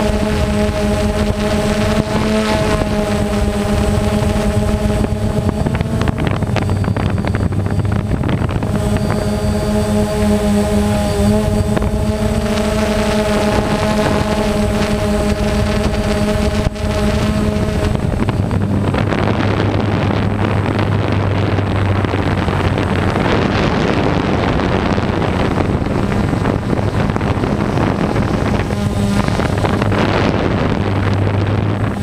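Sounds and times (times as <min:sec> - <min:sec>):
drone motors and propellers: 0:00.0 - 0:32.0
wind rushing: 0:00.0 - 0:32.0.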